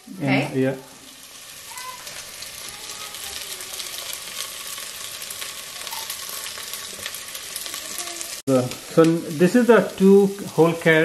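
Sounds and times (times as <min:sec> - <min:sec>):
onions frying in oil: 0:00.0 - 0:11.0.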